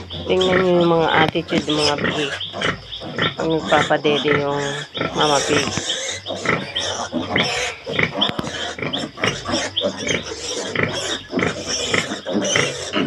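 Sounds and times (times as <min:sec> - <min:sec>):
piglets squealing and grunting: 0:00.0 - 0:13.0.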